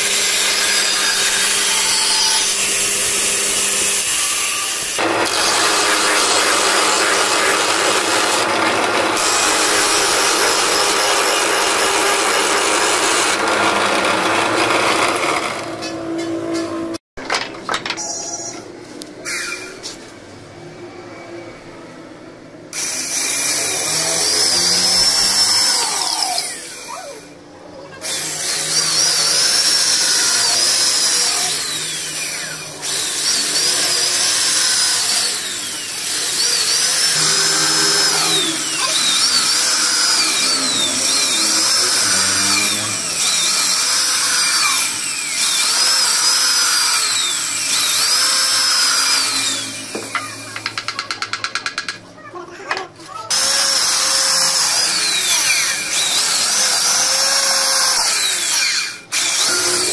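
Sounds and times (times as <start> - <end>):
electric drill whining: 0.0 - 15.9, 22.7 - 27.4, 28.0 - 50.6, 53.3 - 59.9.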